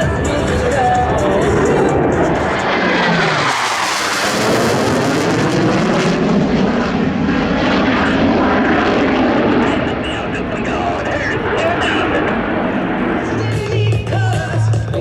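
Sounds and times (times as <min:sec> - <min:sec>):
jet aircraft passing: 0:00.0 - 0:14.7.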